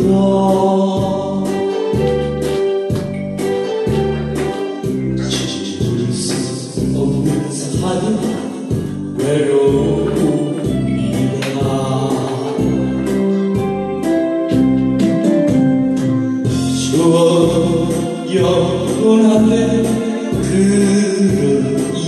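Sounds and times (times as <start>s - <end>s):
instrumental backing track: 0.0s - 22.0s
steady bass beat: 0.0s - 22.0s.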